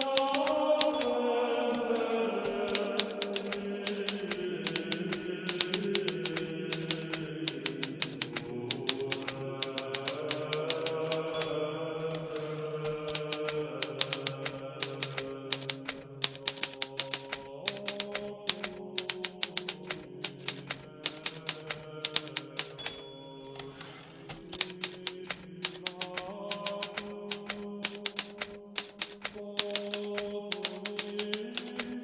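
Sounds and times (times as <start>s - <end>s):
typewriter bell ring: 0.0s - 31.8s
typewriter key strikes: 0.0s - 32.0s.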